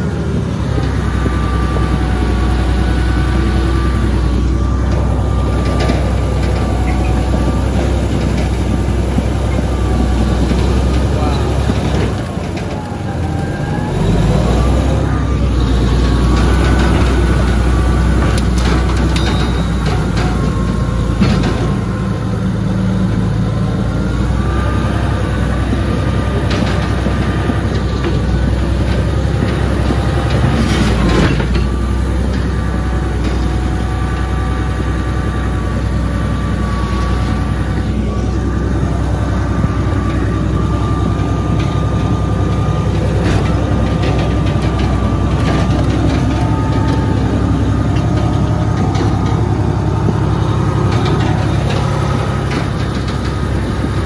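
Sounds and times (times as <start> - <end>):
bulldozer diesel engine running: 0.0 - 54.0
high whine: 0.0 - 54.0.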